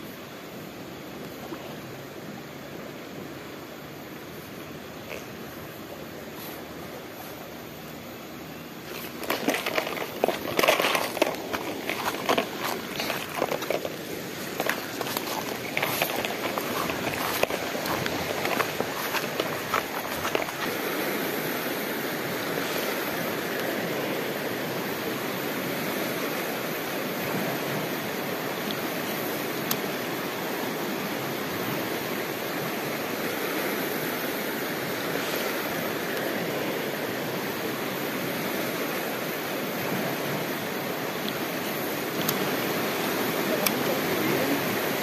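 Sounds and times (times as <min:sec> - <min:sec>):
river rushing over rocks: 0:00.0 - 0:45.0.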